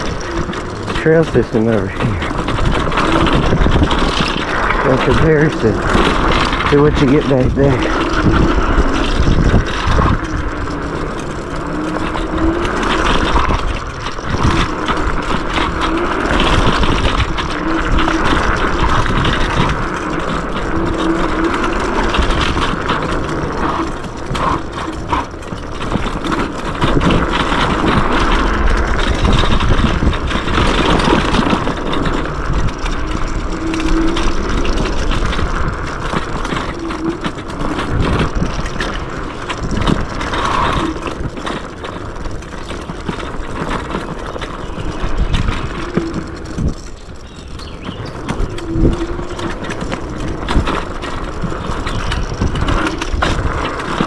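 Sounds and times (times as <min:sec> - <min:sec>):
electric motor hum: 0:00.0 - 0:54.0
wind and tyre noise: 0:00.0 - 0:54.0.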